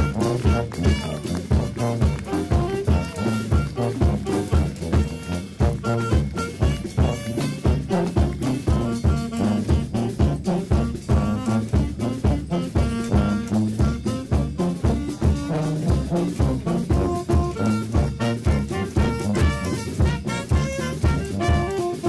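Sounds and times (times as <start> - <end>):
swing brass band music: 0.0 - 22.0.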